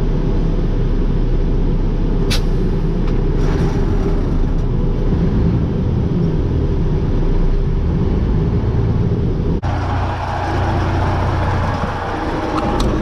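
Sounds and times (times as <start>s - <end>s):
truck diesel engine running: 0.0s - 13.0s.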